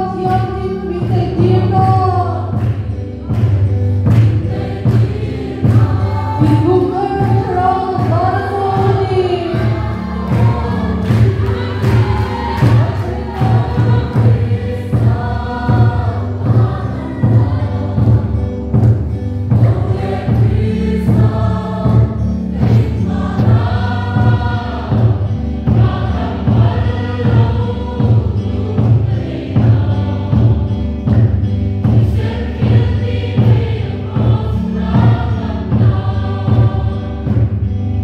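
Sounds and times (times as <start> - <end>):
congregation singing a hymn: 0.0 - 38.0
large drum beating: 0.2 - 38.0.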